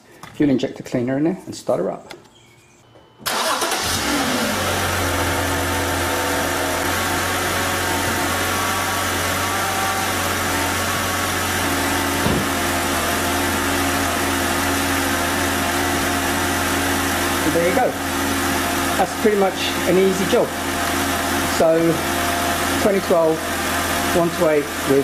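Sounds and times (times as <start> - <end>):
car engine starting and idling: 3.2 - 25.0.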